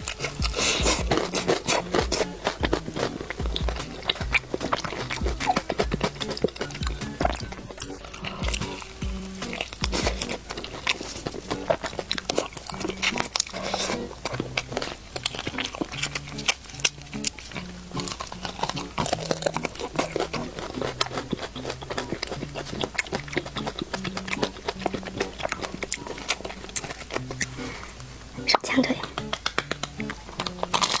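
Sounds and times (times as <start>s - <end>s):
background music with bass: 0.0s - 31.0s
chewing crunchy fried chicken: 0.0s - 31.0s.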